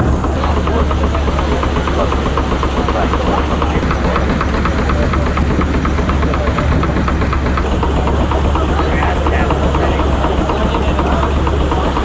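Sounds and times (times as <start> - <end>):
engine running with deep hum: 0.0 - 12.0
regular engine ticking: 0.0 - 12.0.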